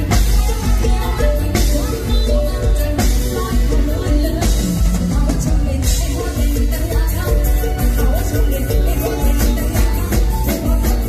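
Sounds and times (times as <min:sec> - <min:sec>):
band music through loud pa: 0:00.0 - 0:11.0
woman singing into microphone: 0:00.0 - 0:11.0.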